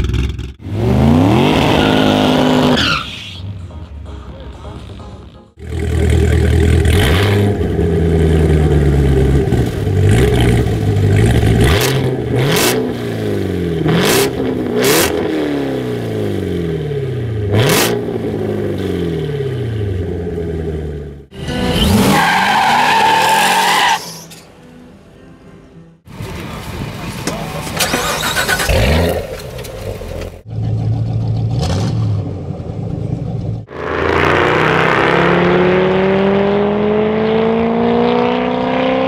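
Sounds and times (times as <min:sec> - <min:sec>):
car engine revving: 0:00.0 - 0:23.7, 0:27.8 - 0:39.0.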